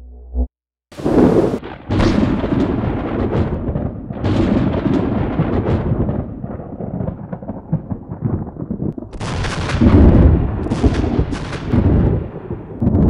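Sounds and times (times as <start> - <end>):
thunder rumbling and cracking: 1.0 - 13.0.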